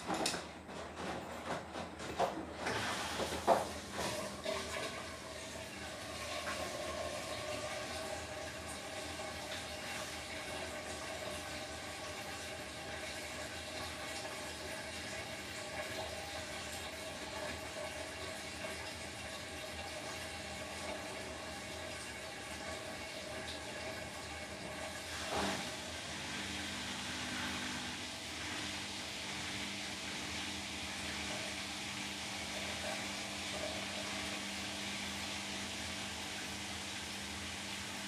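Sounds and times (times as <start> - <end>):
washing machine water rushing: 0.0 - 38.0.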